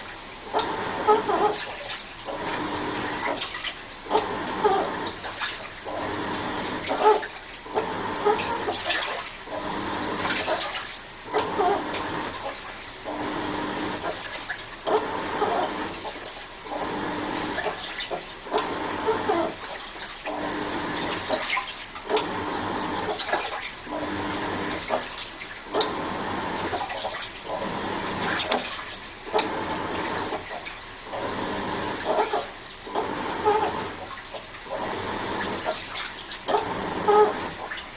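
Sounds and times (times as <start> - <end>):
washing machine water sloshing: 0.0 - 37.9
washing machine whining tone: 0.0 - 37.9.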